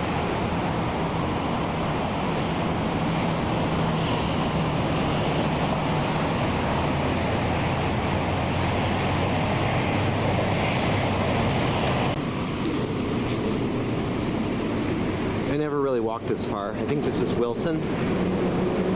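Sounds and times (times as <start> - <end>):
road traffic rumble: 0.0 - 18.9.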